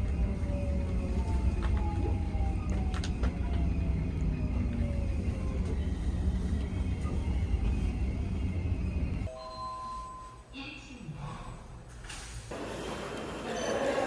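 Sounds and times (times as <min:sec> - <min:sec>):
subway train rumbling: 0:00.0 - 0:09.3, 0:11.3 - 0:14.0.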